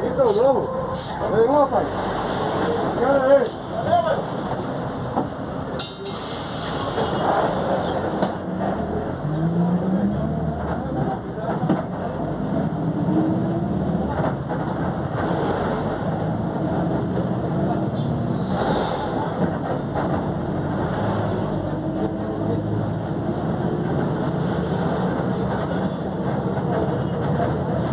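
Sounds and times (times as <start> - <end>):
bus engine running: 0.0 - 27.9.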